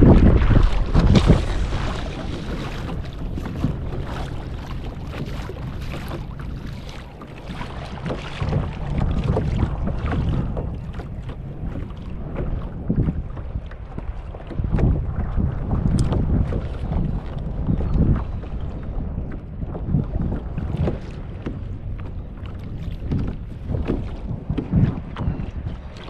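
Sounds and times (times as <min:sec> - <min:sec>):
water lapping against kayak: 0:00.0 - 0:26.0
wind buffeting microphone: 0:00.0 - 0:26.0.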